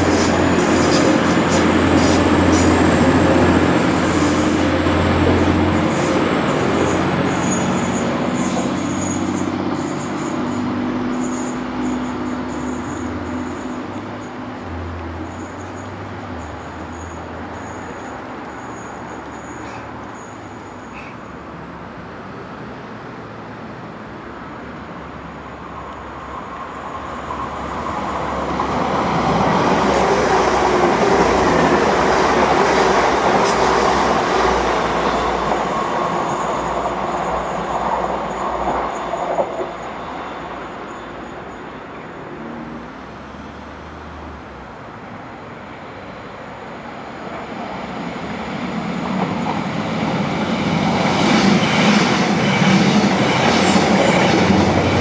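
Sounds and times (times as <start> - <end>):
train wheels on rails: 0.0 - 21.4, 25.4 - 43.3, 46.5 - 55.0
diesel train passing: 0.0 - 55.0.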